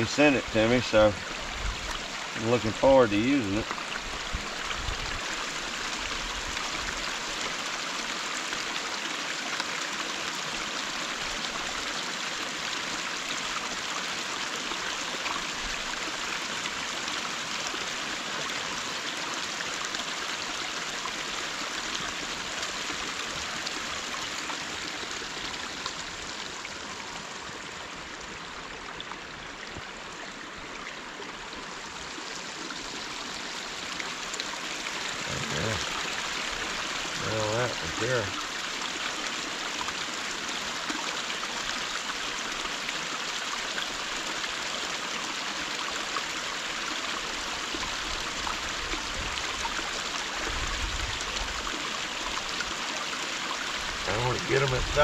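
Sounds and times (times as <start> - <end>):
water running through dam: 0.0 - 55.0.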